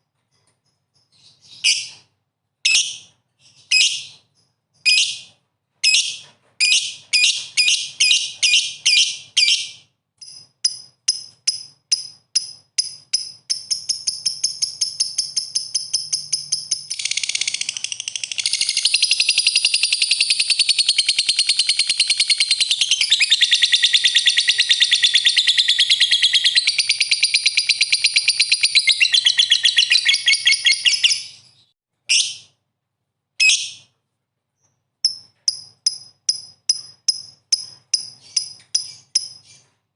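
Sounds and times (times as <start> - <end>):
lovebird chirping and trilling: 1.0 - 32.5, 33.4 - 33.9, 35.0 - 39.7.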